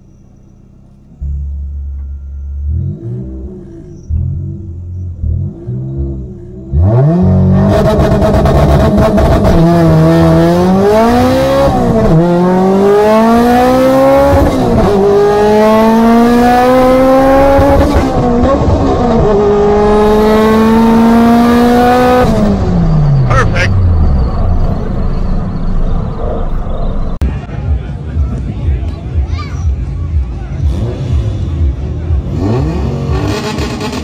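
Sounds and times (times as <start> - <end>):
car engine at full throttle: 0.0 - 34.0.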